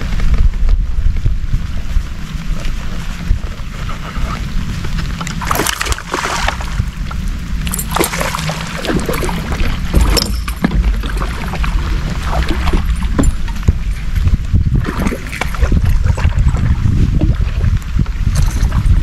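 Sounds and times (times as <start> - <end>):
wind rumbling on microphone: 0.0 - 19.0
water splashing: 2.3 - 19.0.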